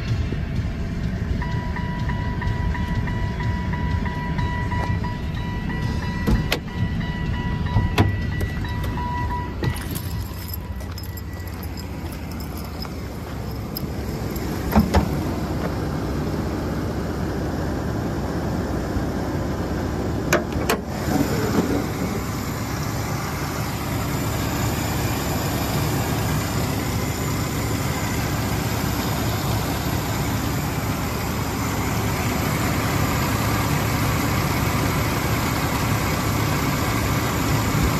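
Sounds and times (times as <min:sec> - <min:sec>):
pickup engine idling: 0:00.0 - 0:37.9.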